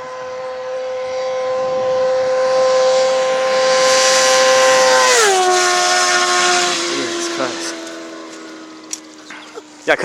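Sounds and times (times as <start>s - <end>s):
sport bike engine at high revs: 0.0s - 10.0s
wind and tyre noise: 0.0s - 10.0s.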